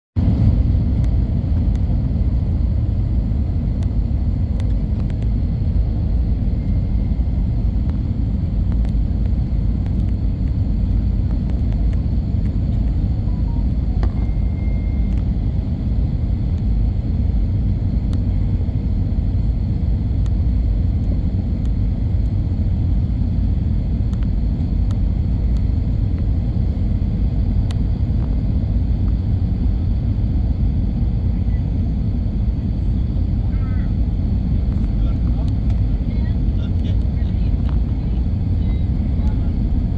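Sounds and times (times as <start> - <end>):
low outdoor rumble: 0.2 - 39.9.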